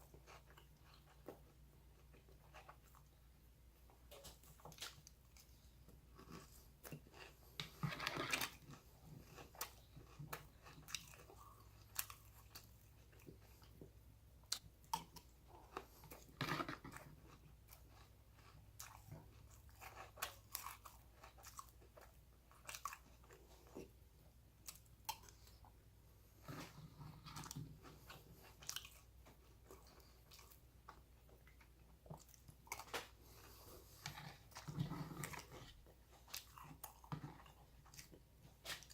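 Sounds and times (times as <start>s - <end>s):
chewing crunchy cereal: 0.0s - 38.9s.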